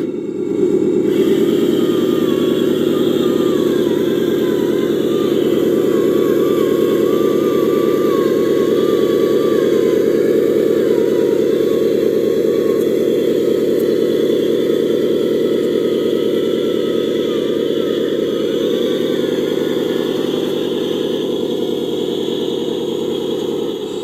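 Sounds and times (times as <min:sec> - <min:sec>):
faint wavering whine: 0:00.0 - 0:24.0
toy truck motor drone: 0:00.0 - 0:24.0.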